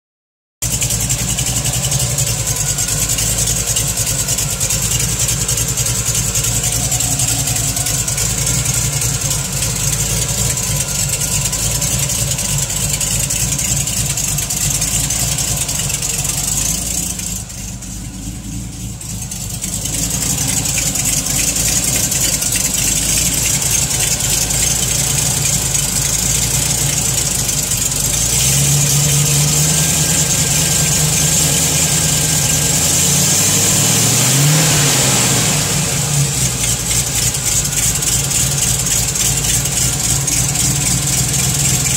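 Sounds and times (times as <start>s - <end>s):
car engine idling: 0.6s - 41.9s
engine ticking: 0.6s - 41.9s.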